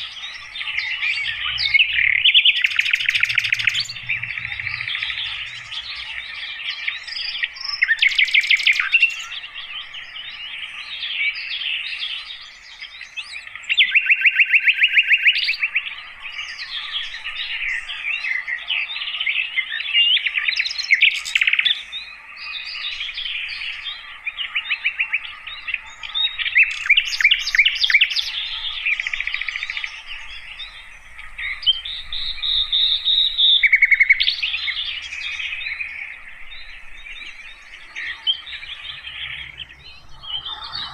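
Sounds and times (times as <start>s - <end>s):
bird singing chirps and warbles: 0.0s - 40.9s
loud rapid bird trills: 0.0s - 40.9s.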